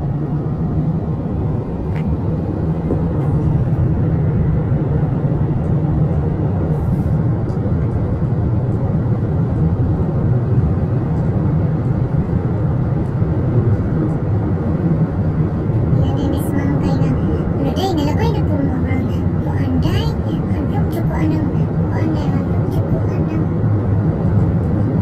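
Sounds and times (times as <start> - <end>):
road and tyre noise in car: 0.0 - 25.0.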